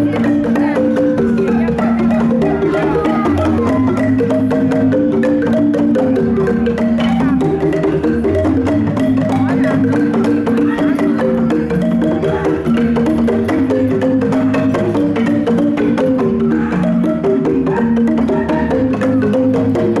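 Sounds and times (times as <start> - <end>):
marimbas played with mallets: 0.0 - 20.0.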